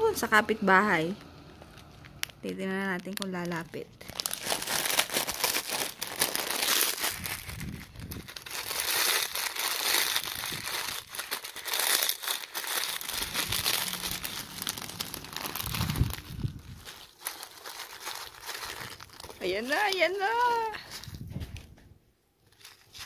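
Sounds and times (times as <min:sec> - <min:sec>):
crinkling and rustling: 0:01.1 - 0:23.0.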